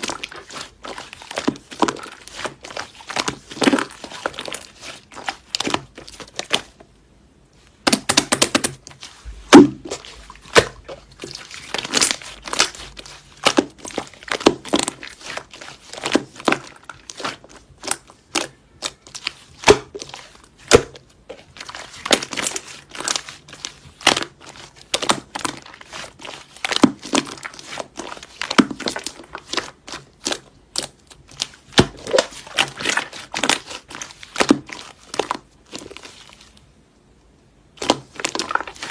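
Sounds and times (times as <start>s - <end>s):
slime squelching and crackling: 0.0s - 6.8s, 7.6s - 36.7s, 37.7s - 38.9s.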